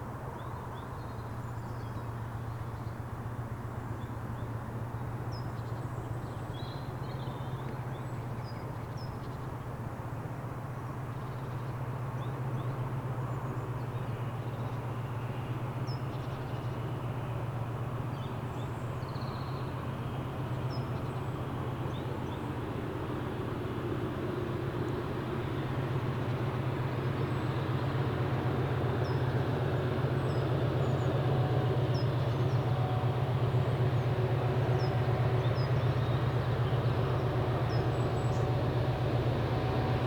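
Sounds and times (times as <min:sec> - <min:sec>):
diesel locomotive drone: 0:00.0 - 0:40.0.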